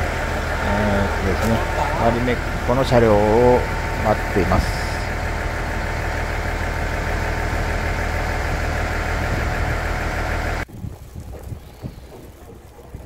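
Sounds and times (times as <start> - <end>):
diesel engine idling: 0.0 - 10.8.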